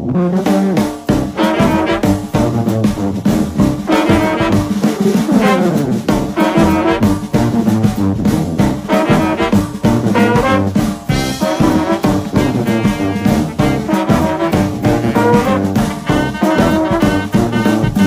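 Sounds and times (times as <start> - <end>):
upbeat jazzy brass music: 0.0 - 18.0.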